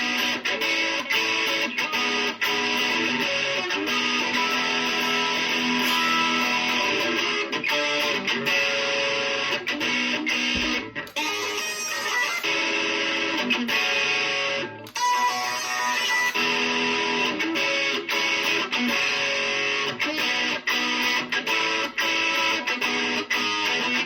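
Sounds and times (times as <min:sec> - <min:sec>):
guitars playing pop-rock: 0:00.0 - 0:24.0.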